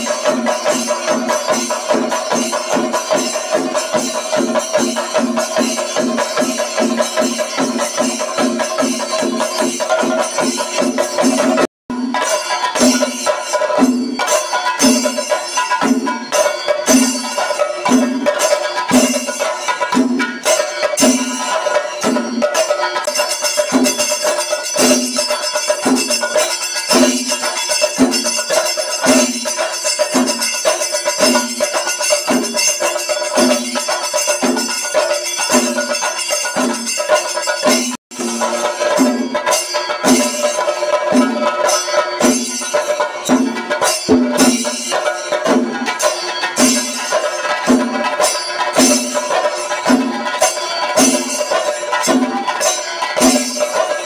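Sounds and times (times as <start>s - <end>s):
jingling metal percussion: 0.0s - 54.0s.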